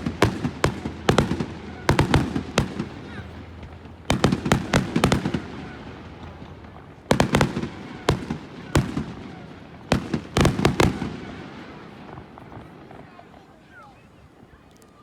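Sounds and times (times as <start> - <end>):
fireworks exploding: 0.0 - 14.5.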